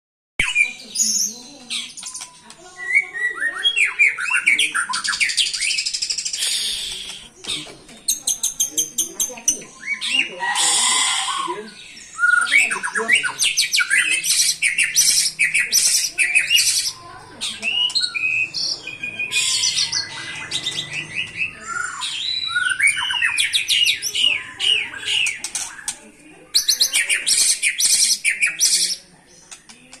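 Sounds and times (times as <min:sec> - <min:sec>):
songbird singing trills: 0:00.4 - 0:30.0.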